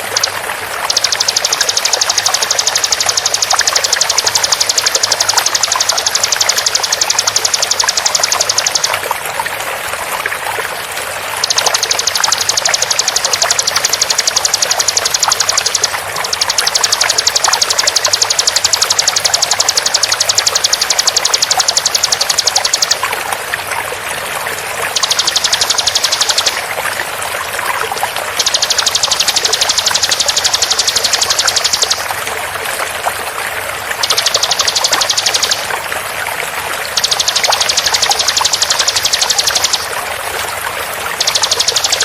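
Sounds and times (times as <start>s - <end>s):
running water: 0.0s - 42.0s.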